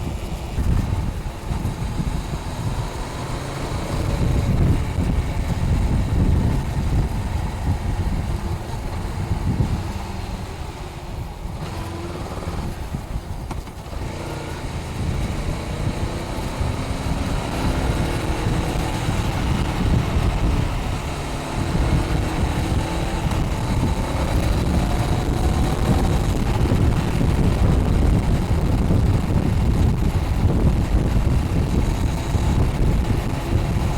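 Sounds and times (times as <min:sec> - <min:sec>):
motorcycle engine accelerating: 0:00.0 - 0:33.9
wind buffeting on microphone: 0:00.0 - 0:33.9.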